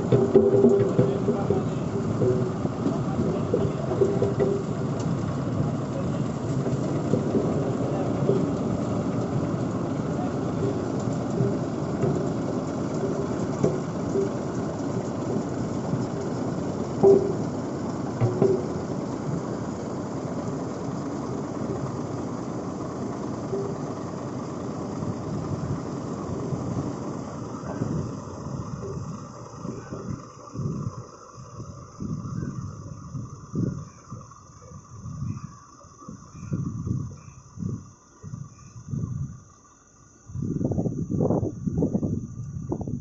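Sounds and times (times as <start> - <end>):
faint voices: 0.0 - 36.7
road roller diesel engine: 0.0 - 43.0.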